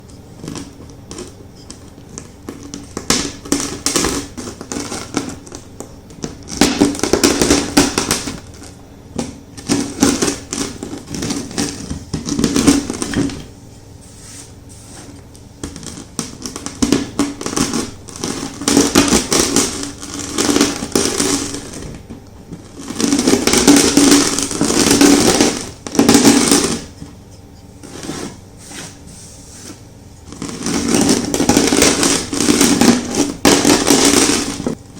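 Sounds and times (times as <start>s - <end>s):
chalk crunching under rolling pin: 0.0s - 5.6s, 6.3s - 22.0s, 22.6s - 34.8s.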